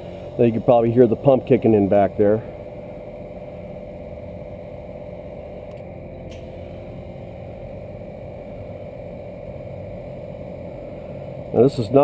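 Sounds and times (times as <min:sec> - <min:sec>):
air compressor motor drone: 0:00.0 - 0:12.0.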